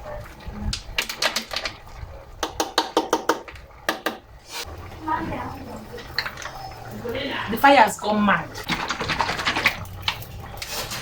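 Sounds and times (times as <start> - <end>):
fire crackling: 0.0 - 11.0.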